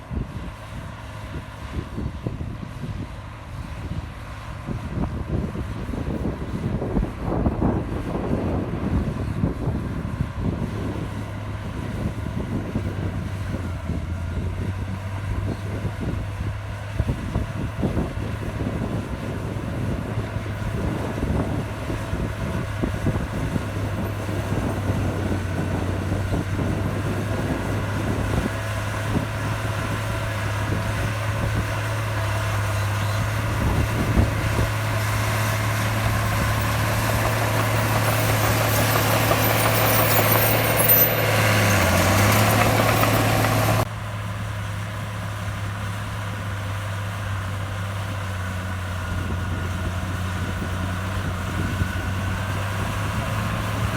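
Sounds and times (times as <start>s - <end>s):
wind noise on microphone: 0.0s - 43.9s, 48.3s - 53.9s
bulldozer diesel engine running: 0.0s - 53.9s.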